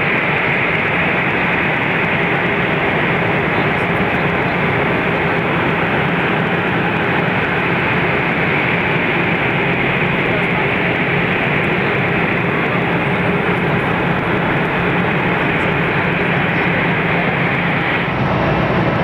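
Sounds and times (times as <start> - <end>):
jet engines idling: 0.0 - 19.0.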